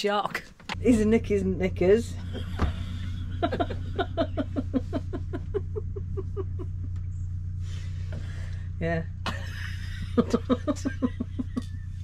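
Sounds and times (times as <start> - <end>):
steady low hum: 0.6 - 12.0.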